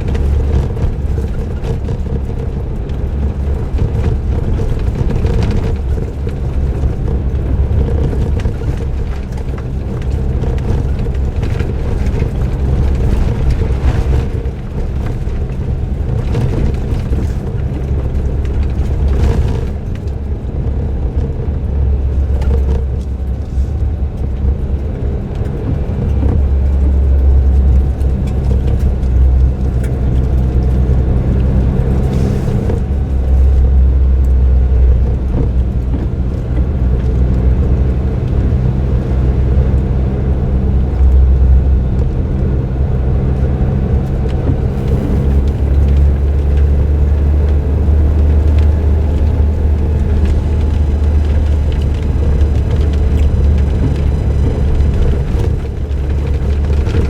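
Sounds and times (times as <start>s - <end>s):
car engine running: 0.0s - 57.0s
tyre and road noise: 0.0s - 57.0s.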